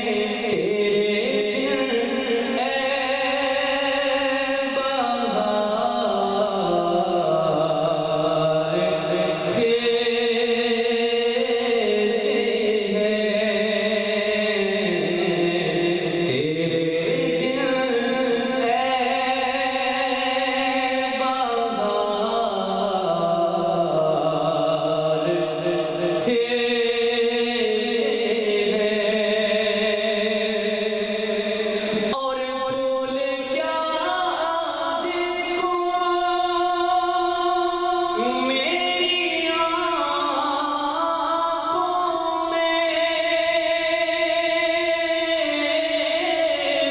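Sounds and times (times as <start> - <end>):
man singing into a microphone: 0.0 - 46.9.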